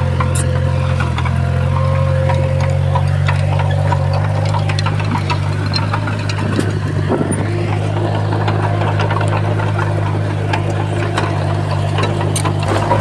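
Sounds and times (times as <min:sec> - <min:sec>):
clanks and knocks: 0:00.0 - 0:13.0
heavy machine engine humming: 0:00.0 - 0:13.0.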